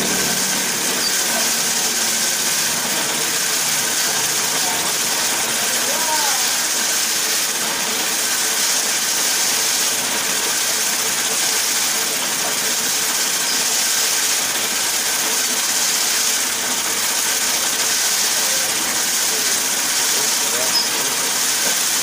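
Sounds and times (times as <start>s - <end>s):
string winding machine hissing: 0.0s - 22.0s.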